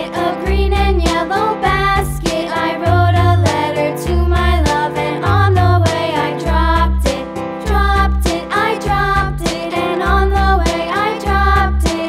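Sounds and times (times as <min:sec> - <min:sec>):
cheerful children's music: 0:00.0 - 0:12.0.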